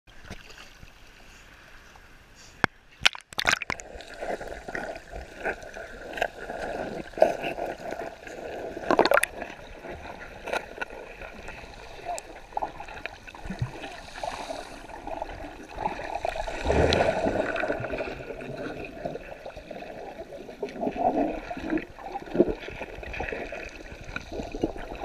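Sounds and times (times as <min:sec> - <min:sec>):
muffled underwater sloshing: 0:03.4 - 0:25.0
water lapping: 0:03.7 - 0:25.0.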